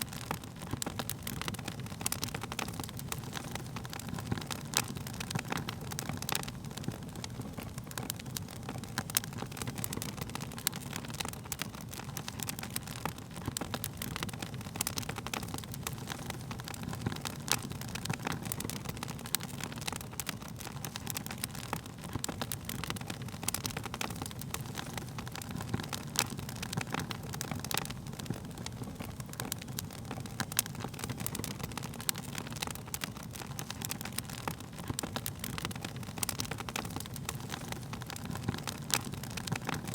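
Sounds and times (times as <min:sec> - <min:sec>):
burning wood crackling: 0:00.0 - 0:39.9
wood fire roaring: 0:00.0 - 0:39.9.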